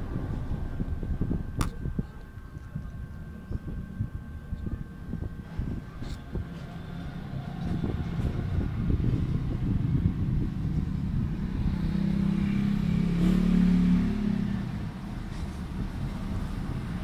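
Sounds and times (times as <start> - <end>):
passing vehicle engine hum: 0.0 - 17.0
steady low rumble: 0.0 - 17.0.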